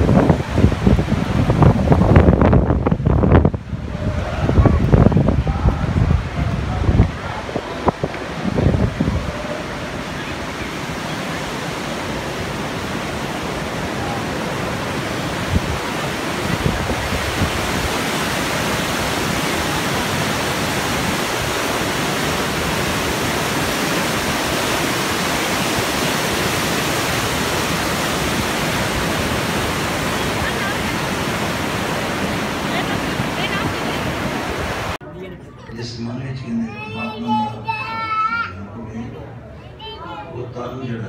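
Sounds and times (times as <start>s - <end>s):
river rushing over boulders: 0.0s - 35.0s.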